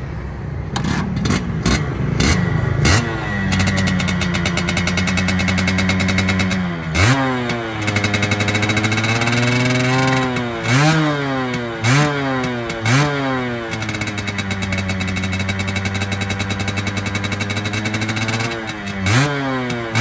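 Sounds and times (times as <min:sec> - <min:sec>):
two-stroke engine revving: 0:00.8 - 0:20.0.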